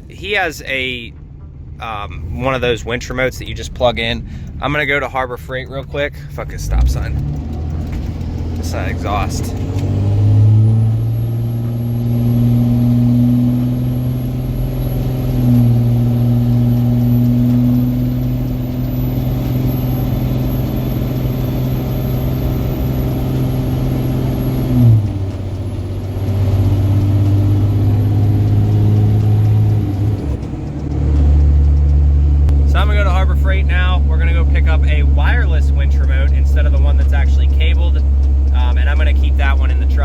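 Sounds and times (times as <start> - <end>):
diesel truck engine droning: 0.0 - 40.0.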